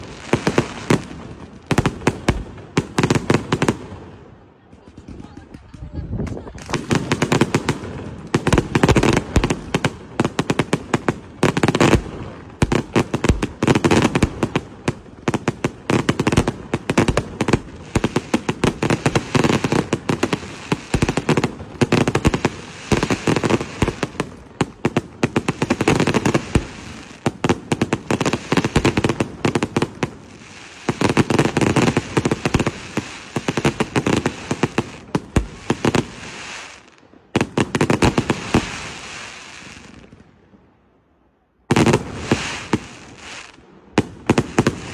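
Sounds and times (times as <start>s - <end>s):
fireworks bangs and crackling: 0.0s - 40.8s, 41.6s - 44.9s.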